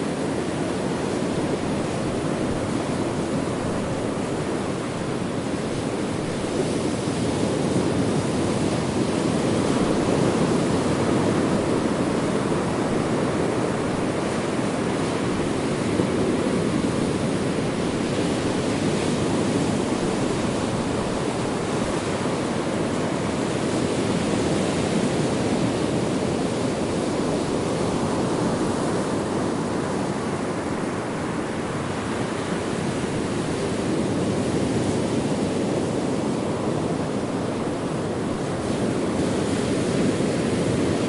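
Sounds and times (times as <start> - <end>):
ocean surf washing ashore: 0.0 - 41.0.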